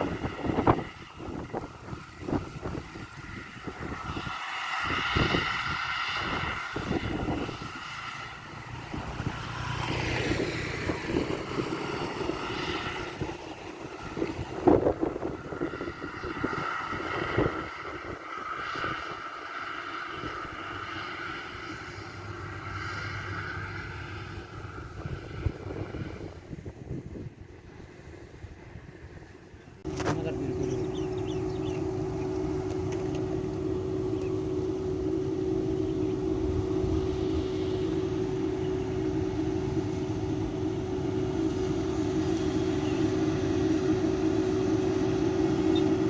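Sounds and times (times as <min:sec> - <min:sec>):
high machinery whine: 0:00.0 - 0:26.7, 0:29.8 - 0:46.0
combine harvester engine drone: 0:00.0 - 0:46.0.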